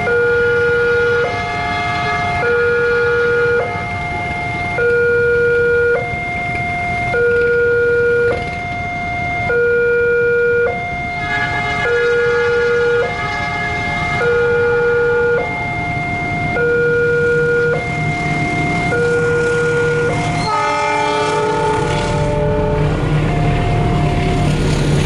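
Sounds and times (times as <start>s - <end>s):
level-crossing two-tone alarm: 0.0s - 24.8s.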